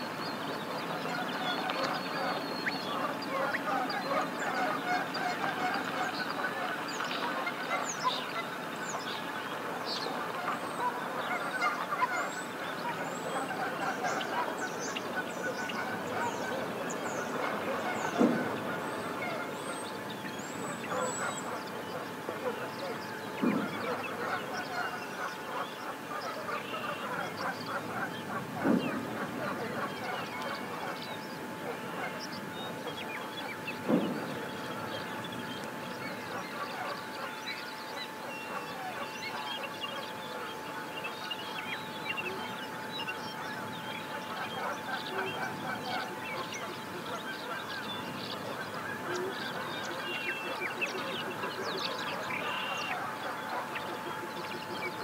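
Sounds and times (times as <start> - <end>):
geese honking: 0.8 - 55.0.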